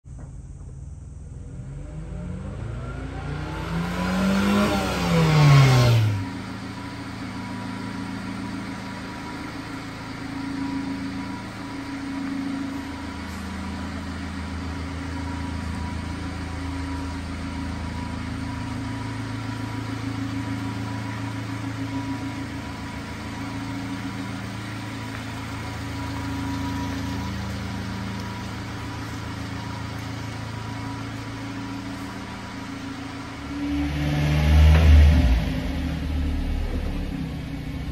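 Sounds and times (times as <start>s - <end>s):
steady low engine drone: 0.0s - 37.9s
small truck engine passing: 1.2s - 37.9s.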